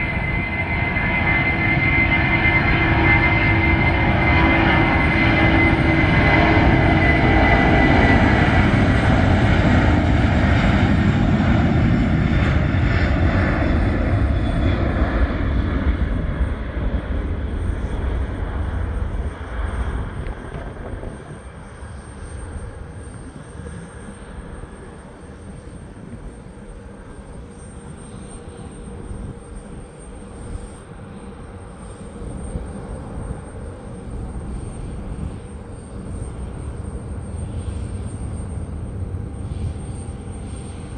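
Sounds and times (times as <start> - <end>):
jet engine roar with whine: 0.0 - 40.9.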